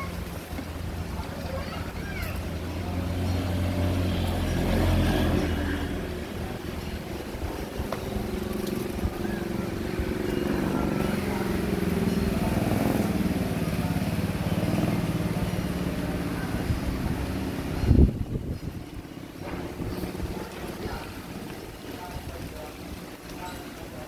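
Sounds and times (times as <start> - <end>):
motor engine running: 2.2 - 23.3.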